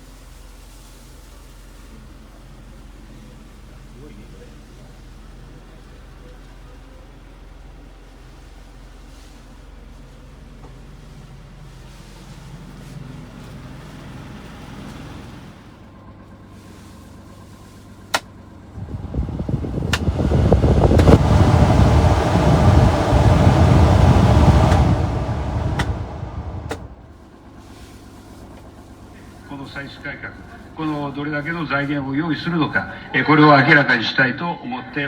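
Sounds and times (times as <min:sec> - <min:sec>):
small truck engine humming: 0:00.0 - 0:34.4.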